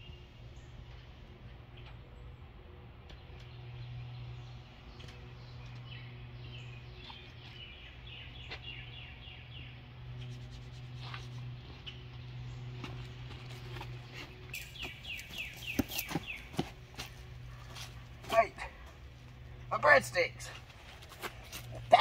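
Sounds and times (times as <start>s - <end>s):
birds chirping: 0.0s - 22.0s
low hum: 0.0s - 22.0s.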